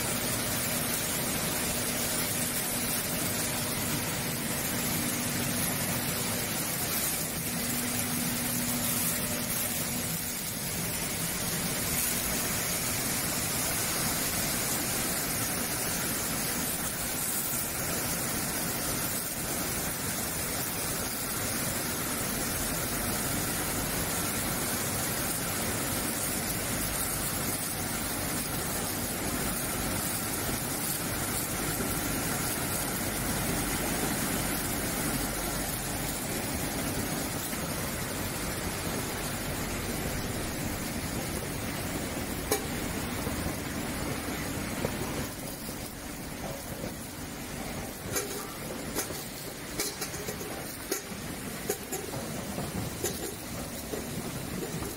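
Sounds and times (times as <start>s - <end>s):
vegetable washing machine spraying water: 0.0s - 54.9s.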